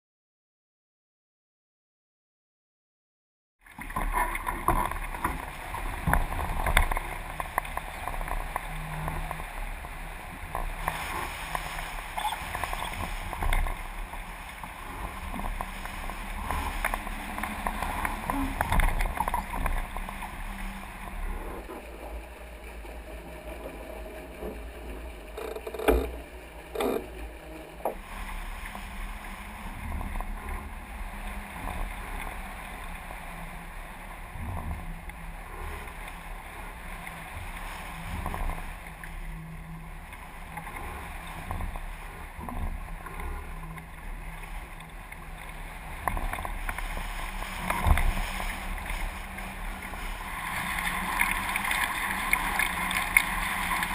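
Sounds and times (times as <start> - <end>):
water rushing past hulls: 3.6 - 53.9
wind on microphone: 4.0 - 53.9.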